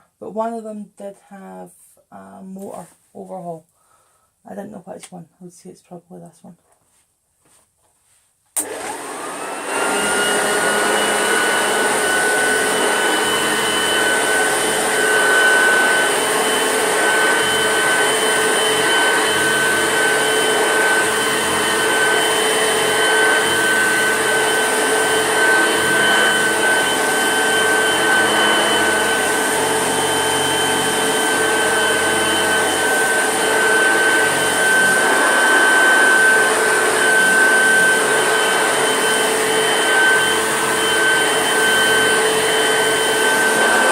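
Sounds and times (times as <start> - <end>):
vacuum cleaner running: 8.6 - 43.9.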